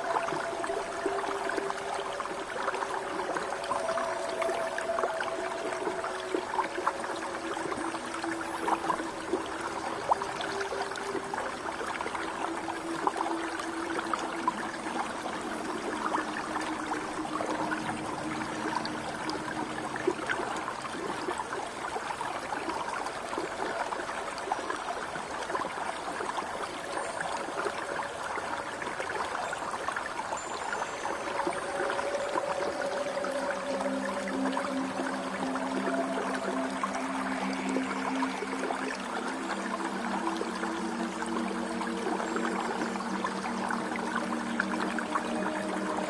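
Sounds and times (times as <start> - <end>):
stream babbling over rocks: 0.0 - 46.0.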